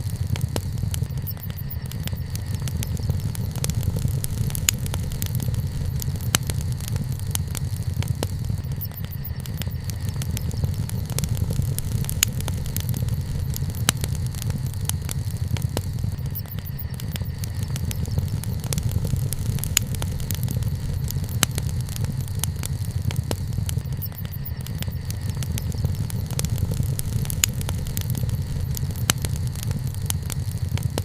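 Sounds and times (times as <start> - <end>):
bonfire rumbling: 0.0 - 31.0
wood crackling and popping: 0.0 - 31.0.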